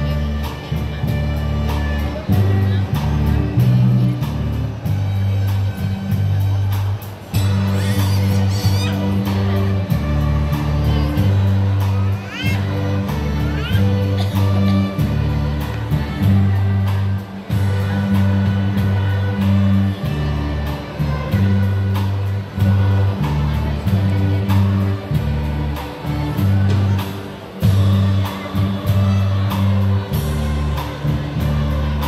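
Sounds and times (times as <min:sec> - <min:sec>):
held bass notes: 0:00.0 - 0:32.0
string orchestra playing: 0:00.0 - 0:32.0.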